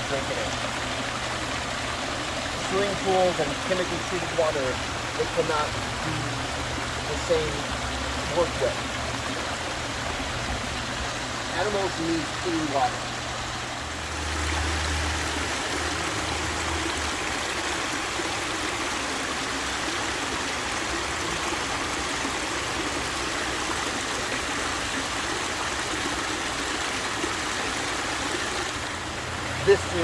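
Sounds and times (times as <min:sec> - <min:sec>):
water running over rocks: 0:00.0 - 0:30.0.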